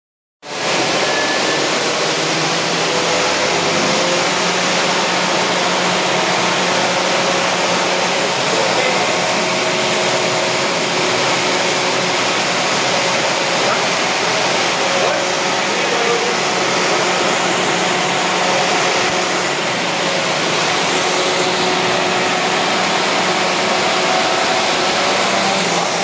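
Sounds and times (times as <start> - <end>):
fan blowing air: 0.4 - 26.0.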